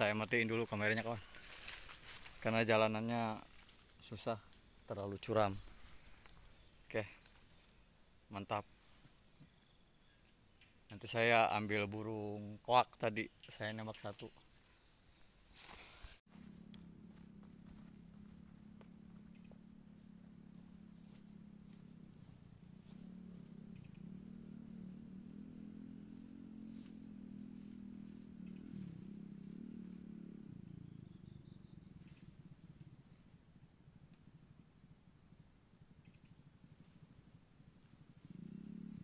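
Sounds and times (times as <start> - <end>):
quick insect chirps: 0.0 - 39.0.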